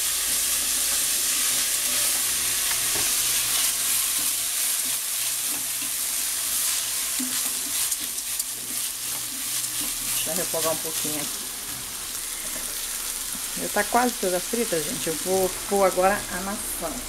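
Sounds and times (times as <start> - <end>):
rice sizzling in oil: 0.0 - 17.0.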